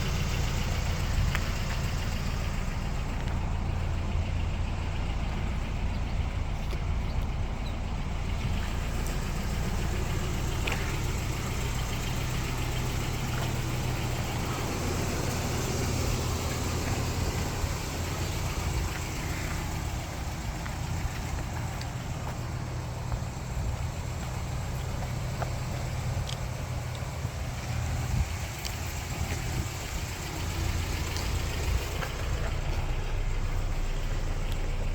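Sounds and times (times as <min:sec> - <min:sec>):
pickup engine idling: 0:00.0 - 0:34.9.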